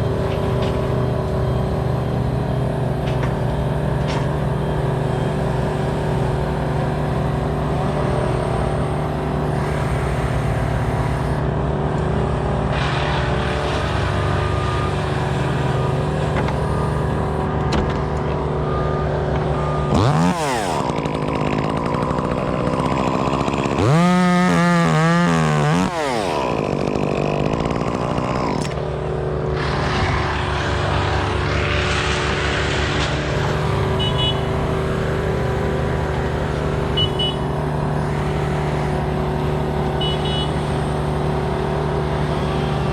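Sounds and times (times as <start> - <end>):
engine running: 0.0 - 42.9
small engine revving: 2.9 - 17.5, 18.6 - 42.9.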